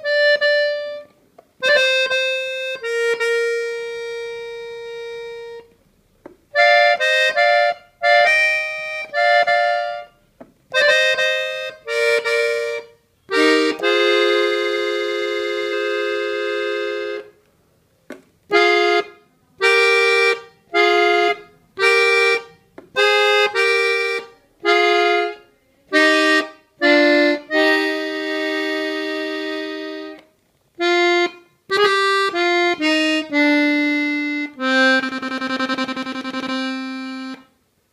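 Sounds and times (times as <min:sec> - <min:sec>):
button accordion melody: 0:00.0 - 0:05.8, 0:06.5 - 0:17.4, 0:18.5 - 0:37.6.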